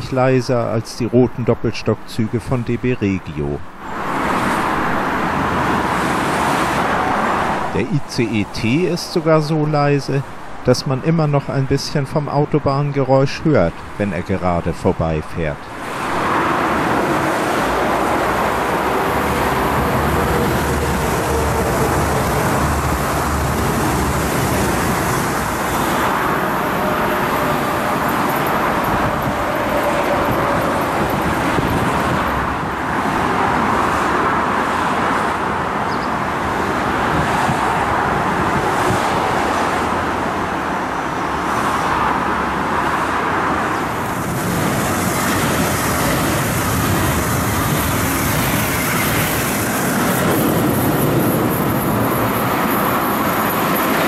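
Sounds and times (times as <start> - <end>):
motorway traffic rushing: 0.0 - 54.0
train passing: 3.7 - 10.7, 15.4 - 54.0.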